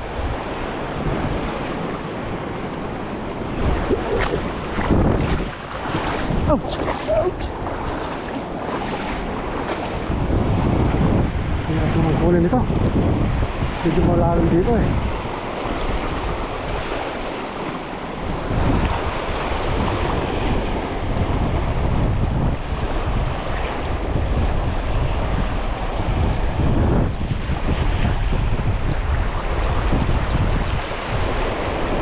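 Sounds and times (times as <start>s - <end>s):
waves washing: 0.0s - 32.0s
wind buffeting microphone: 0.0s - 32.0s.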